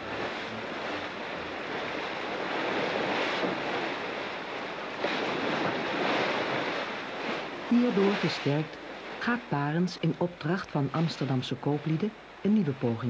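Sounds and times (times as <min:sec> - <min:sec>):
seawater rushing along hull: 0:00.0 - 0:13.0
wind: 0:00.0 - 0:13.0.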